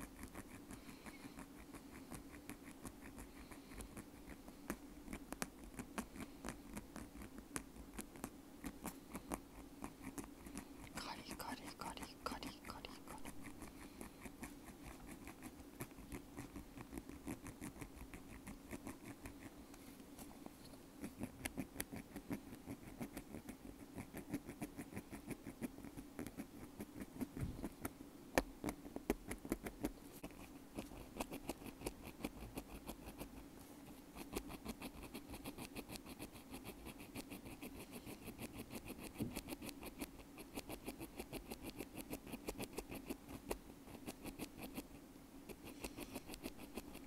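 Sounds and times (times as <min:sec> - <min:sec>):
ear pick scratching in earbud: 0:00.0 - 0:19.6, 0:21.0 - 0:33.4, 0:34.2 - 0:44.9, 0:45.5 - 0:47.0.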